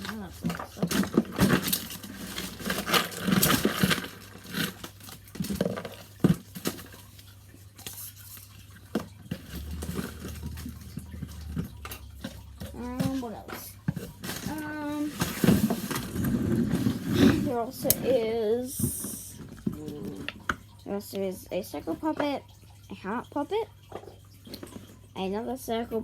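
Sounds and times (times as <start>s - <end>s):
plastic toys clattering and rustling: 0.0s - 26.0s.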